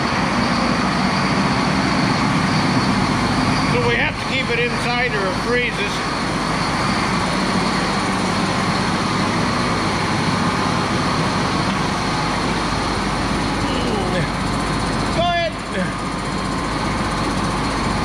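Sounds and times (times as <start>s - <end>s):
machine engine running steadily: 0.0s - 18.0s.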